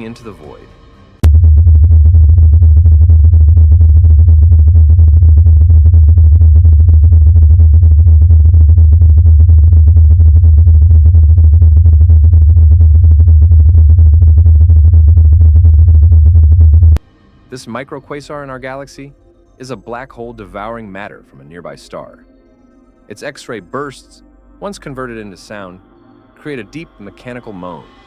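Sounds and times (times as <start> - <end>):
deep pulsing drone: 0.0 - 28.0.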